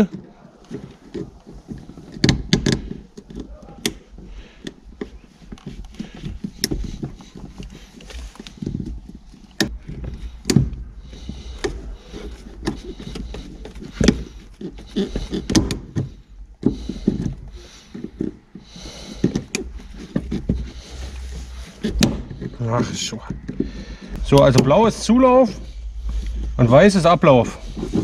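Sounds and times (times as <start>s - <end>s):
rustling: 0.0s - 28.0s.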